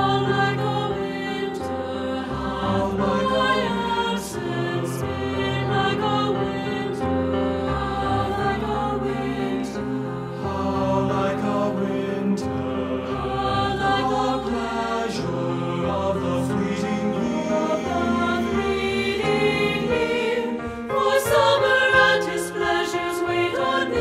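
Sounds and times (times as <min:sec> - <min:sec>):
choir singing in harmony: 0:00.0 - 0:24.0
piano accompaniment: 0:00.0 - 0:24.0.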